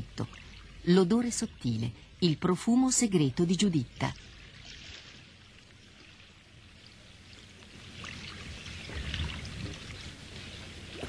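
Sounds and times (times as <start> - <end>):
lake water splashing and lapping: 0.0 - 11.0.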